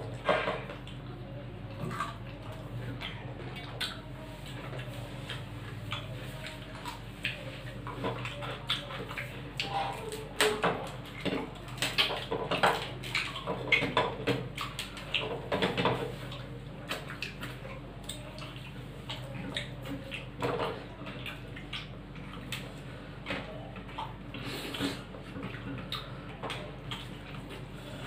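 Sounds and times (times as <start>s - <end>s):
chewing: 0.0s - 28.0s.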